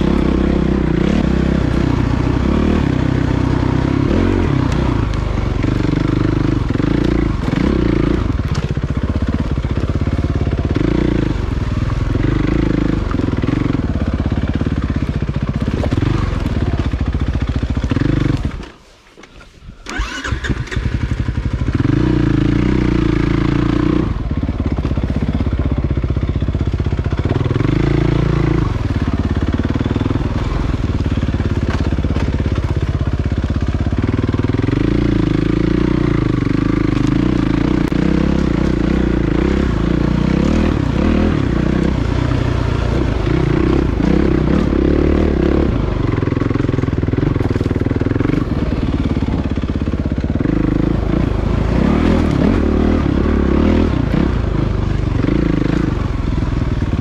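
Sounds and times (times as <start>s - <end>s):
dirt bike engine revving: 0.0s - 18.8s, 19.8s - 57.0s.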